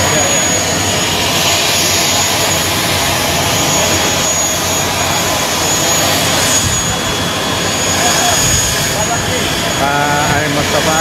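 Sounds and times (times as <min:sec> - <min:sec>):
aircraft engine roaring: 0:00.0 - 0:11.0.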